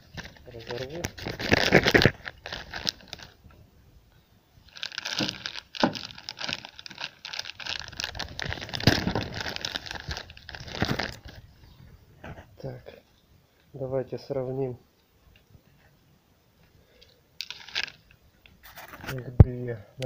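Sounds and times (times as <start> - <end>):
crinkling and rustling handling: 0.0 - 14.6, 15.2 - 19.8.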